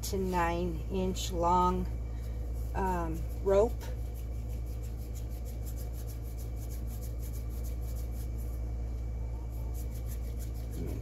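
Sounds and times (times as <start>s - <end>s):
steady low hum: 0.0s - 11.0s
hands rubbing dough: 1.3s - 11.0s.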